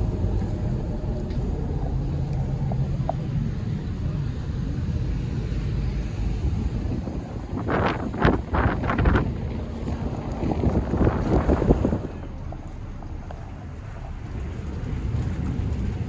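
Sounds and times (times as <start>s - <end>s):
ferry engines rumbling: 0.0s - 16.0s
wind buffeting microphone: 0.0s - 16.0s.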